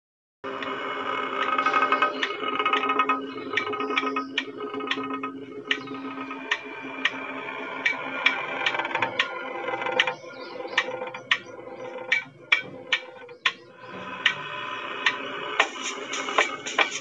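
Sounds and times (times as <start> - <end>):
sustained chord tones: 0.4 - 17.0
sharp clicking beat: 1.4 - 7.2, 7.8 - 17.0.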